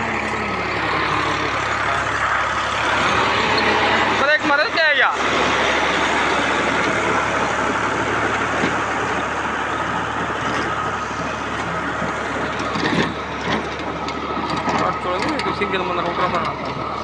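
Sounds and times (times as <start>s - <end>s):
rotary tiller working soil: 0.0s - 17.0s
tractor engine running: 0.0s - 17.0s.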